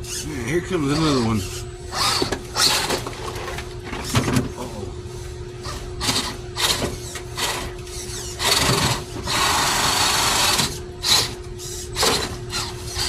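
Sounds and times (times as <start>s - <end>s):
electric toy truck motor buzzing: 0.0s - 3.6s, 5.6s - 13.0s.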